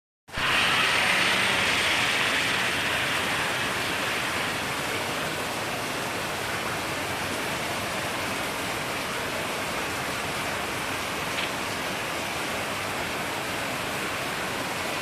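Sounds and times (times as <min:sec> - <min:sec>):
heavy rain: 0:00.3 - 0:15.0.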